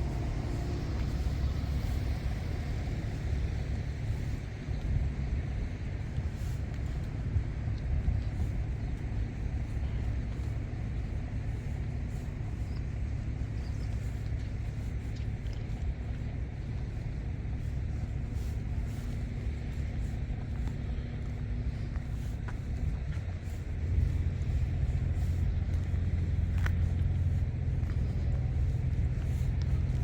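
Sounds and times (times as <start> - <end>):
combine harvester engine rumble: 0.0 - 30.0
faint steady hum: 0.0 - 30.0.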